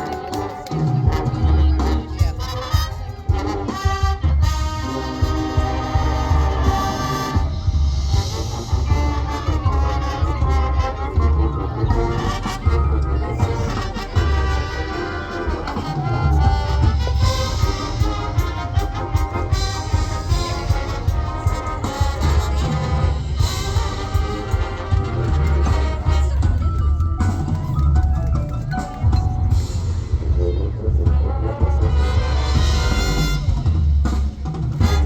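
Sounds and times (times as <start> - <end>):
brass melody: 0.0 - 35.0
marching band playing: 0.0 - 35.0.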